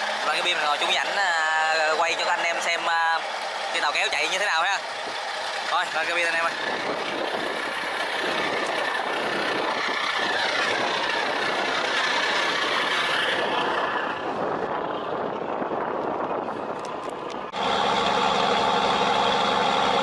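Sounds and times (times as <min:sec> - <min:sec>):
diesel boat engine running: 0:00.0 - 0:20.0.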